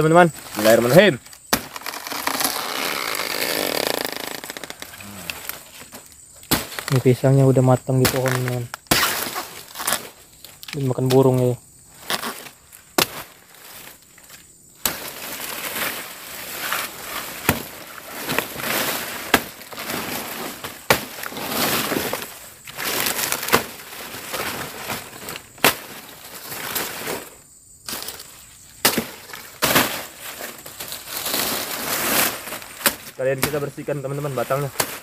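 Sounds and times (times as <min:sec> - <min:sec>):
dry leaves crackling and tearing: 0:00.4 - 0:05.9, 0:08.1 - 0:11.1, 0:12.0 - 0:35.0
sharp cracks of snapping stems: 0:00.6 - 0:07.2, 0:07.9 - 0:26.9, 0:27.9 - 0:35.0.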